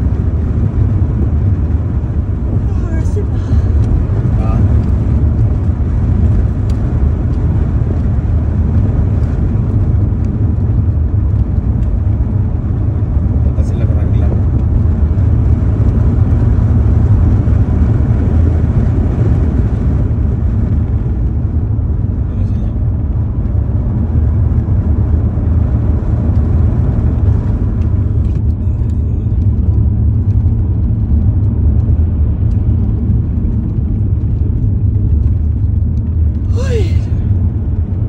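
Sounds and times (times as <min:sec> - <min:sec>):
car cabin road rumble: 0:00.0 - 0:38.0.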